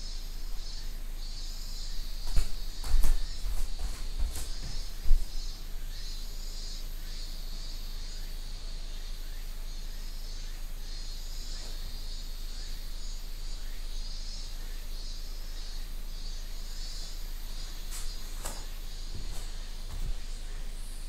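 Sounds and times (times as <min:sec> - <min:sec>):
insects chirring: 0:00.0 - 0:21.0
low electrical hum: 0:00.0 - 0:21.0.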